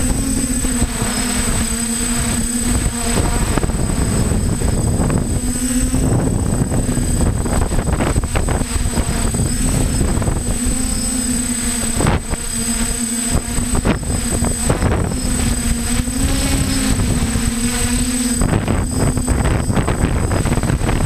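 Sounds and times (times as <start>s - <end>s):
drone motors humming: 0.0s - 21.0s
wind buffeting microphone: 0.0s - 21.0s.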